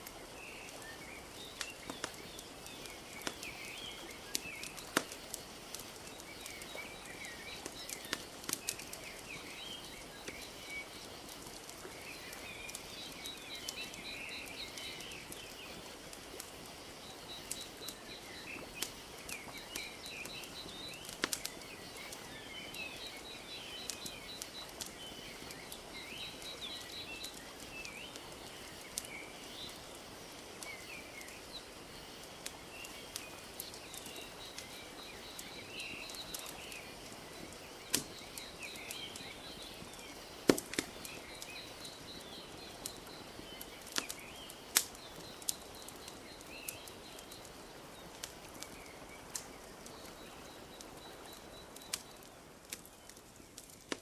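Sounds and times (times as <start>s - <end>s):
small birds chirping: 0.0s - 54.0s
wood fire crackling and popping: 0.0s - 54.0s.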